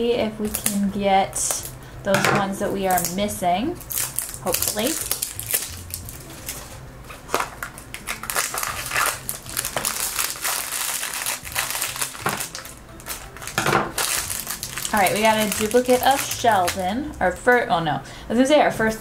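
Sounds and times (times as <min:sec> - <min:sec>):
plastic and foil wrapping crinkling: 0:00.5 - 0:01.8, 0:02.8 - 0:17.7.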